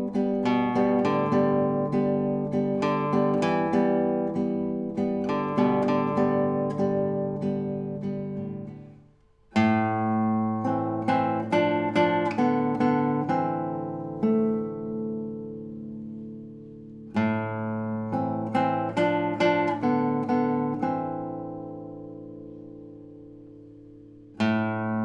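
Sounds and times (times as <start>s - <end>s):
classical guitar fingerstyle: 0.0s - 25.0s.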